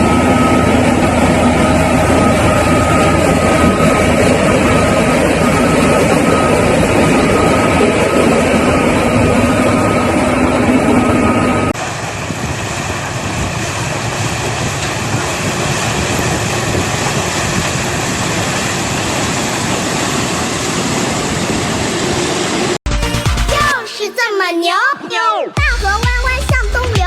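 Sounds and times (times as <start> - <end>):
harvester machine running: 0.0 - 23.6.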